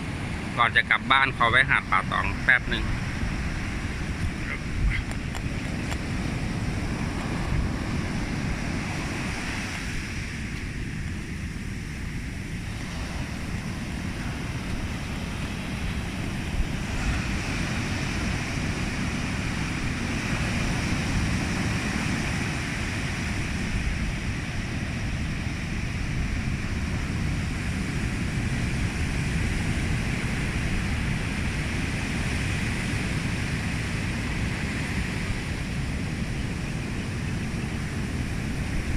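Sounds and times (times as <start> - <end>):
surf rushing: 0.0 - 38.9
wind buffeting microphone: 0.0 - 38.9.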